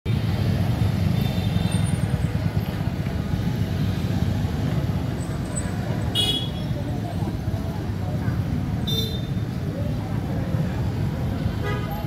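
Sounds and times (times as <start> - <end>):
vehicle engines rumbling: 0.1 - 12.0.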